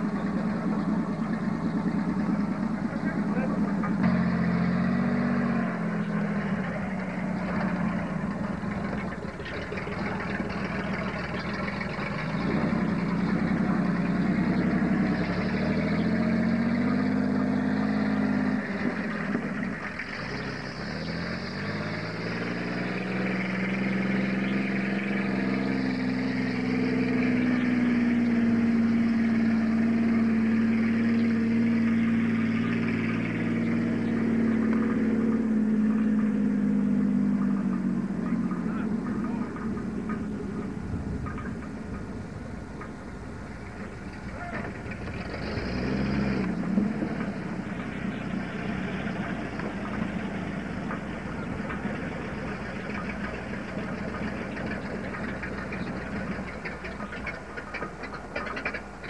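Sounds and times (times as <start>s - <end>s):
pickup truck engine revving: 0.0s - 59.0s.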